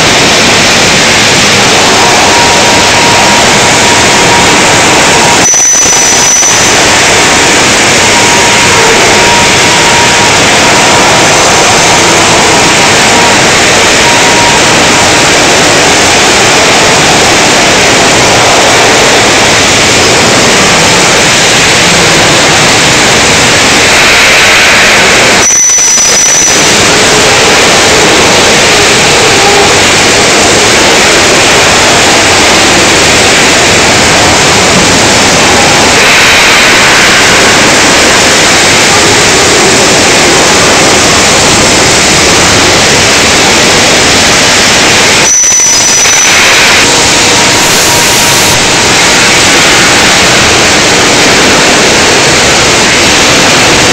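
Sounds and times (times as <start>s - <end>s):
loud steady machinery noise: 0.0s - 53.9s.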